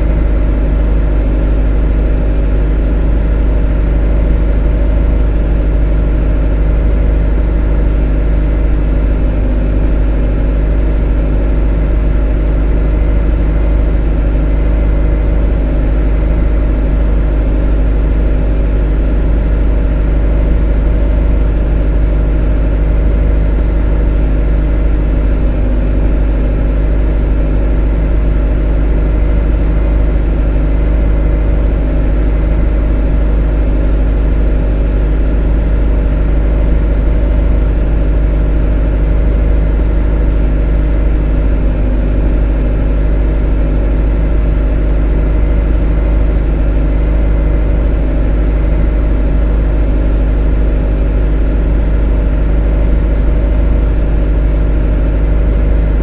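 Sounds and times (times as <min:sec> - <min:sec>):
motor droning steadily: 0:00.0 - 0:56.0.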